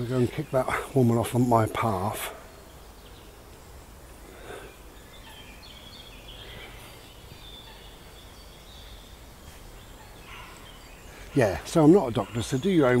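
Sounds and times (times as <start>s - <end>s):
faint woodland birdsong: 0.0s - 13.0s.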